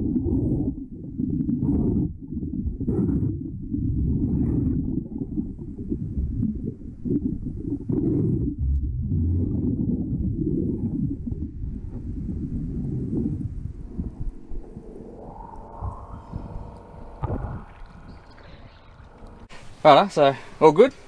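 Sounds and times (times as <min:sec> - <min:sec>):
muffled underwater rumbling: 0:00.0 - 0:20.0.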